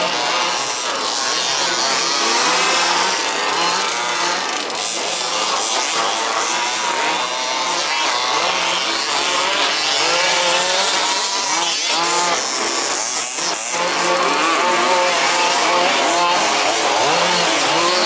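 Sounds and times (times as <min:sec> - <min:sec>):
rc buggy engines whining: 0:00.0 - 0:18.0.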